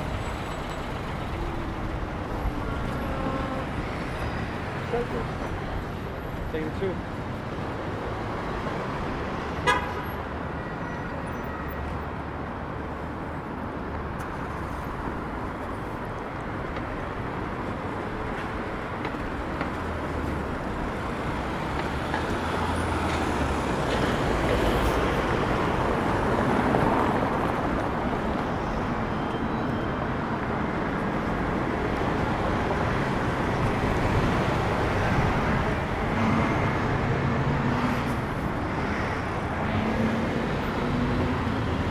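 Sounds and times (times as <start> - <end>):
passing vehicles rumble: 0.0 - 41.9.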